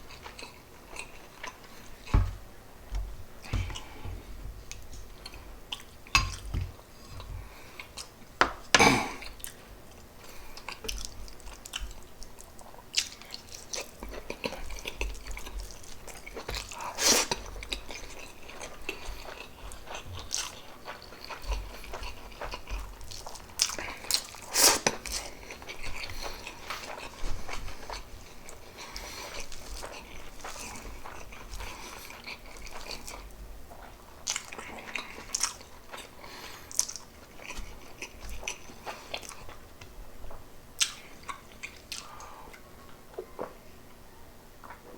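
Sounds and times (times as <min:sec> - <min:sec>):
person chewing food: 0:00.0 - 0:43.6.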